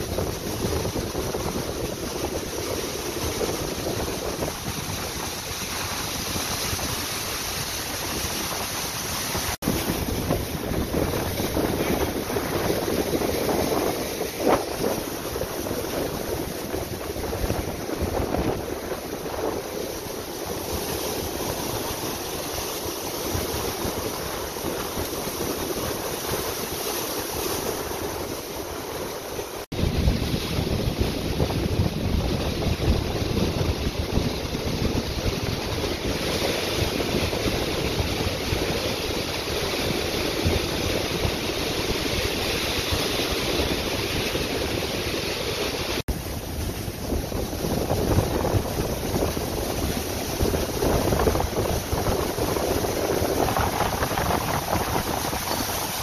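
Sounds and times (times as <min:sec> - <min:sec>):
ocean surf breaking over rocks: 0:00.0 - 0:56.0
wind buffeting microphone: 0:00.0 - 0:56.0.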